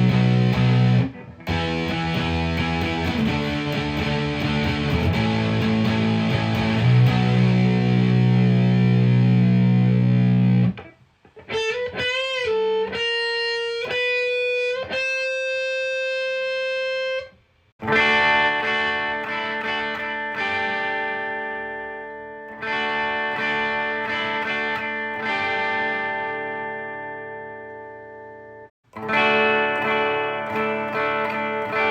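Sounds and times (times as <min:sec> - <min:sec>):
electric guitar playing: 0:00.0 - 0:31.9.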